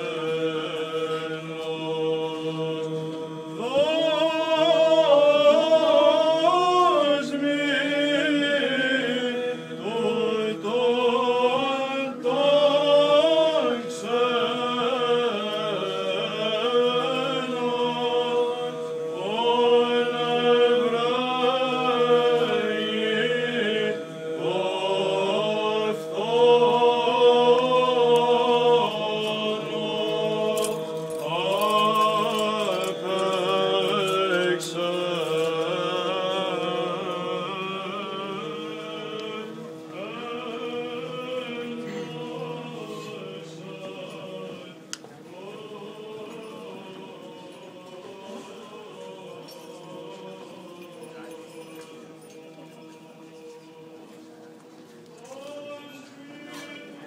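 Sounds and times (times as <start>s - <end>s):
male group chanting in unison: 0.0s - 54.0s.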